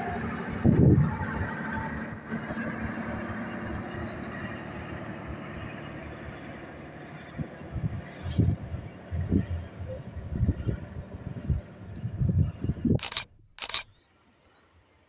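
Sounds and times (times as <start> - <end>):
train coaches rolling on track: 0.0 - 12.6.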